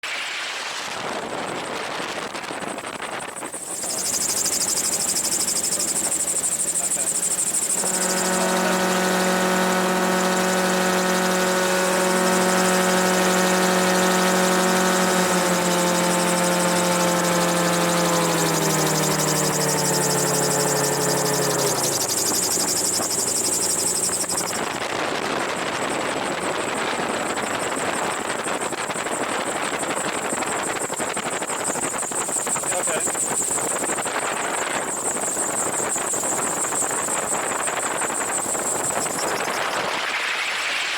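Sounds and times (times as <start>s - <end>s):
gyrocopter engine running: 1.2s - 40.9s
rotor noise: 2.5s - 40.9s.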